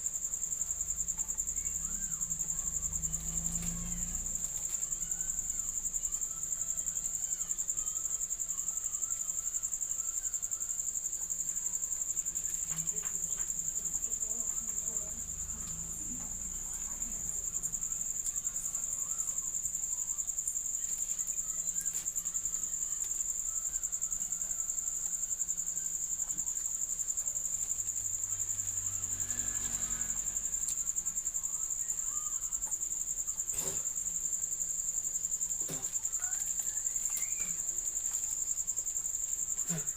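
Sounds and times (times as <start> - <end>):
high-pitched insect trilling: 0.0 - 39.9.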